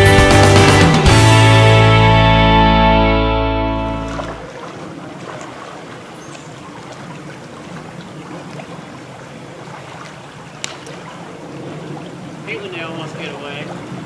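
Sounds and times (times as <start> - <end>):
creek water flowing: 0.5 - 14.0.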